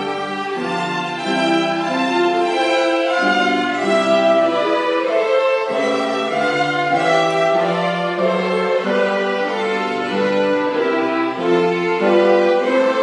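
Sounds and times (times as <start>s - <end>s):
violins playing slow piece: 0.0s - 13.0s.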